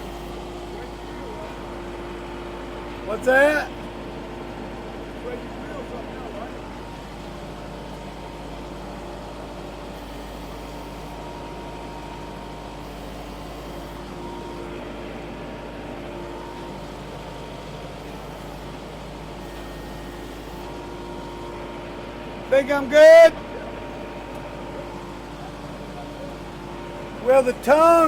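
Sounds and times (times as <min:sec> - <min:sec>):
vehicle engine running steadily: 0:00.0 - 0:28.0.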